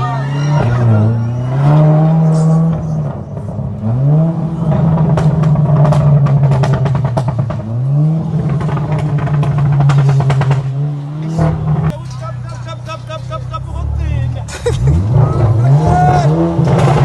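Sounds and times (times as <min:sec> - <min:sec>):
car engine revving: 0:00.0 - 0:17.0
exhaust crackling: 0:00.0 - 0:17.0.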